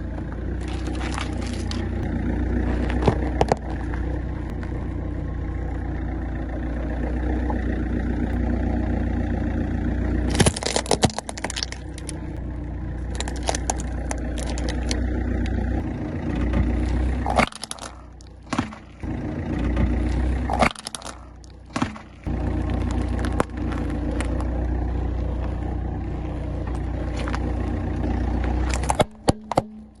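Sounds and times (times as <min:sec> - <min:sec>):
car engine running slowly: 0:00.0 - 0:30.0
tyres crushing objects: 0:00.4 - 0:04.8, 0:10.0 - 0:30.0.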